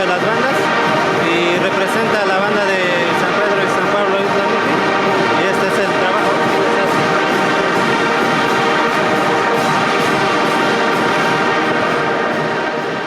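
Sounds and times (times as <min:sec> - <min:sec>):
brass wind band playing: 0:00.0 - 0:13.0.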